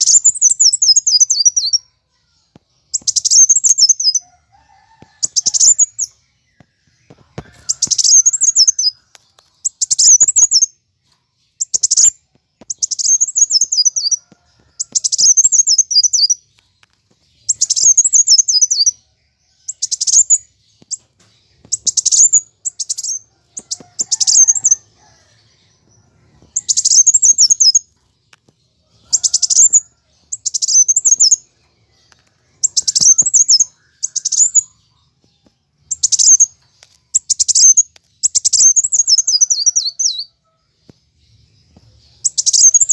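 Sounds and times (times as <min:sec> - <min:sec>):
high-pitched bird twittering chirps: 0:00.0 - 0:04.3, 0:05.0 - 0:10.8, 0:11.4 - 0:28.1, 0:28.9 - 0:35.2, 0:35.8 - 0:40.4, 0:41.7 - 0:42.9.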